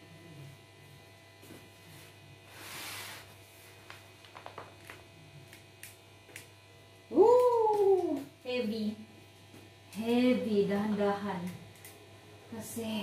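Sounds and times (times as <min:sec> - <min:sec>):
faint oven hum: 0:00.0 - 0:13.0.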